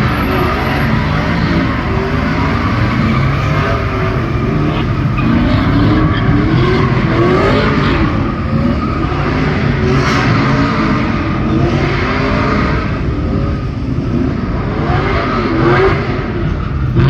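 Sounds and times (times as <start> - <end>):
dense noisy din: 0.0 - 17.0
engine revving: 0.0 - 17.0.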